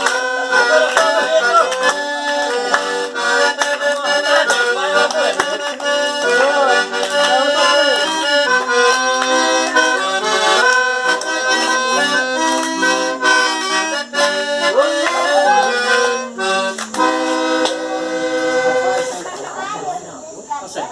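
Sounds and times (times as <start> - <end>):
accordion playing a tune: 0.0 - 20.1.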